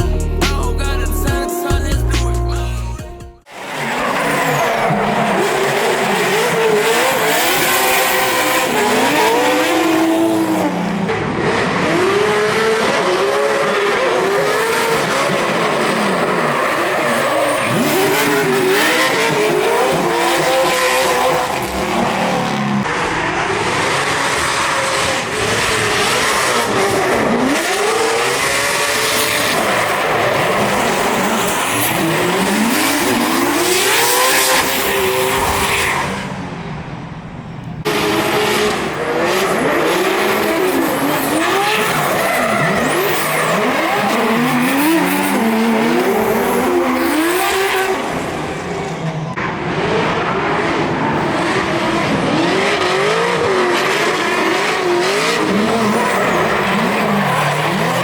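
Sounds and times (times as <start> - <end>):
high-revving race engines: 3.6 - 58.0.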